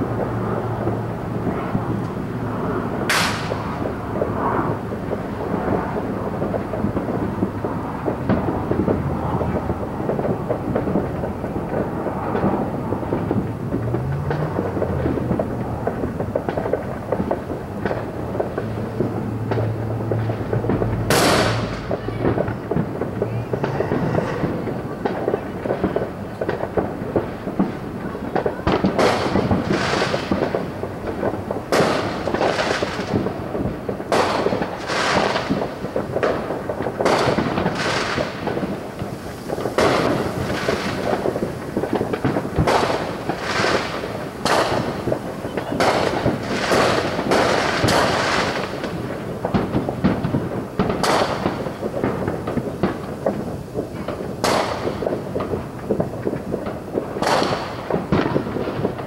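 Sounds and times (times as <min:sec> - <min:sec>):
background fireworks popping: 0:00.0 - 0:59.0
distant fireworks bangs: 0:00.0 - 0:59.0.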